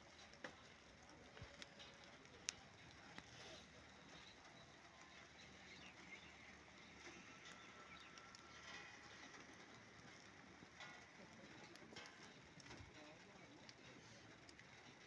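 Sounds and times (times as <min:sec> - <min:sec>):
heavy rain on dirt: 0:00.0 - 0:15.0.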